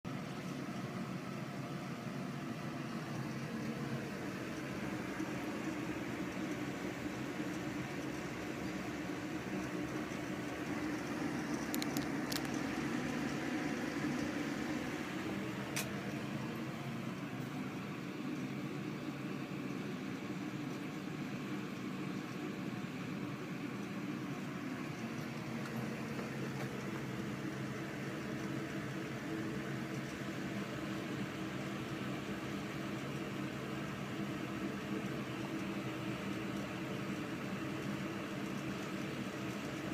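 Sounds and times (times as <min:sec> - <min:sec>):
ventilation fan whooshing hum: 0:00.0 - 0:39.9.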